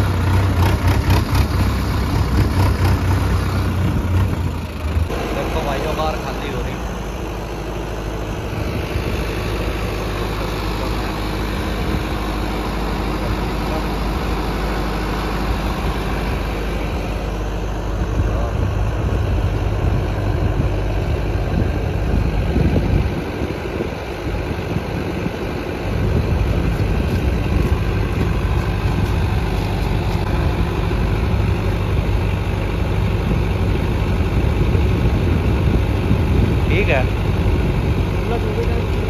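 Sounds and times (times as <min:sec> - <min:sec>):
tractor diesel engine droning: 0:00.0 - 0:39.0.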